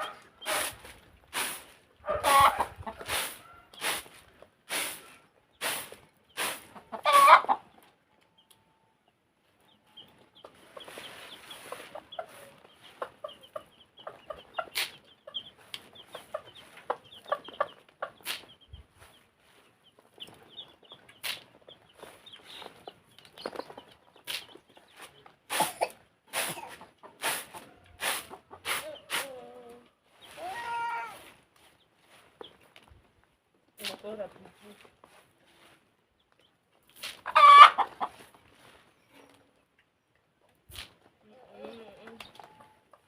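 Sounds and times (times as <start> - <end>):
chickens clucking: 0.0 - 33.1, 33.8 - 43.0.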